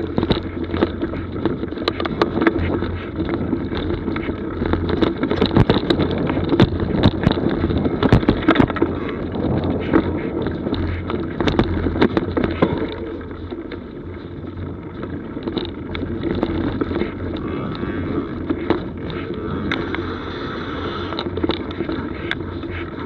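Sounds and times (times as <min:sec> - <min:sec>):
bike rattling knocks: 0:00.0 - 0:23.0
bike tyre noise on dirt: 0:00.0 - 0:23.0
wind on microphone: 0:00.0 - 0:23.0.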